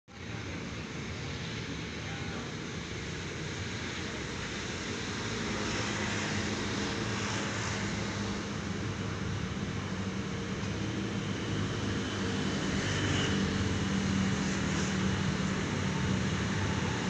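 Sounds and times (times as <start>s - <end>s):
distant traffic rumble and hiss: 0.1s - 17.0s.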